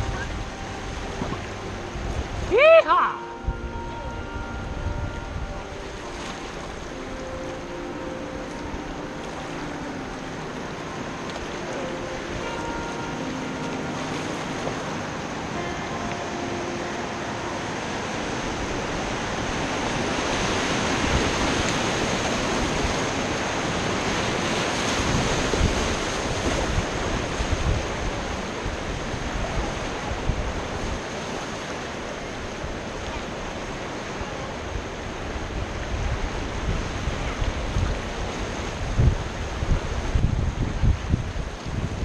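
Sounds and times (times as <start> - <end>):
river rapid rushing and splashing: 0.0 - 42.0
wind buffeting microphone: 0.0 - 42.0.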